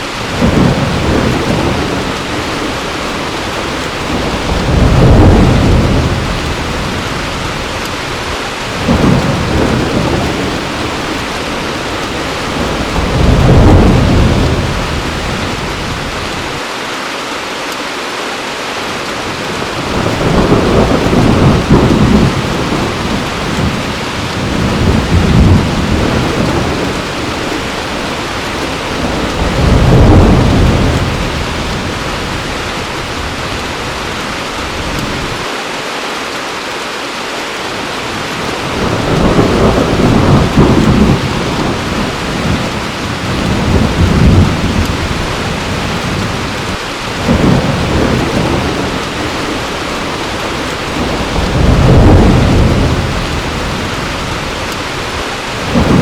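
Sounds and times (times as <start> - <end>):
rolling thunder: 0.0 - 16.6, 19.4 - 35.4, 38.2 - 56.0
heavy rain falling: 0.0 - 56.0.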